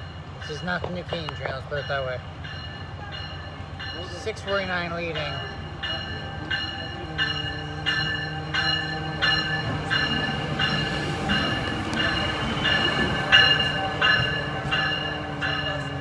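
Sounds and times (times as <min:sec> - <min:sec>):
locomotive bell ringing: 0:00.0 - 0:16.0
locomotive hum: 0:00.0 - 0:16.0
wheels rumbling: 0:00.0 - 0:16.0.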